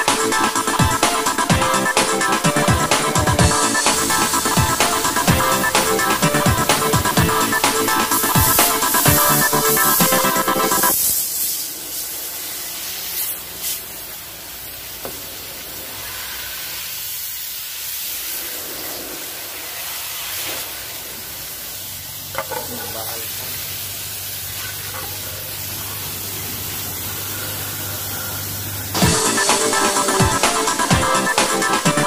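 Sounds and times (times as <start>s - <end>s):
water jet hissing: 0.0s - 32.0s.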